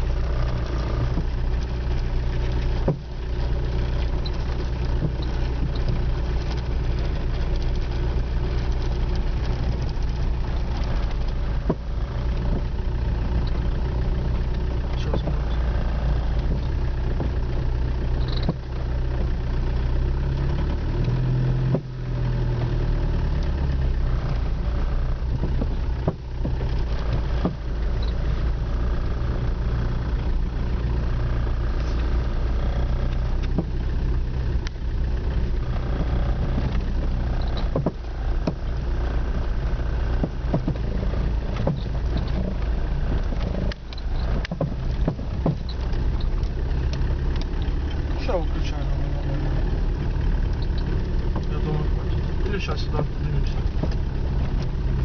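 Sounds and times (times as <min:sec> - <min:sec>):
car engine running: 0:00.0 - 0:55.0
suspension knocking: 0:00.0 - 0:55.0.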